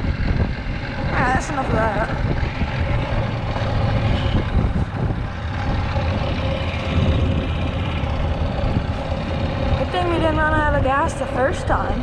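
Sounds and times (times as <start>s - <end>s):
golf cart engine running: 0.0s - 12.0s
wind buffeting microphone: 0.0s - 12.0s.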